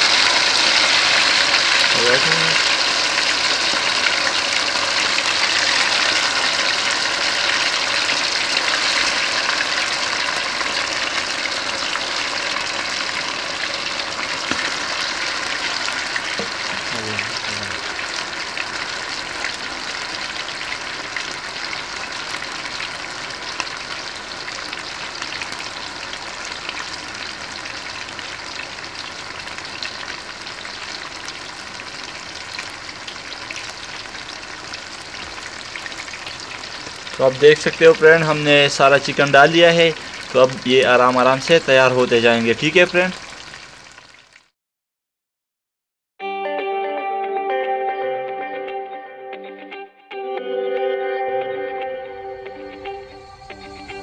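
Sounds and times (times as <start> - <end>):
chicken deep-frying sizzle: 0.0 - 44.6.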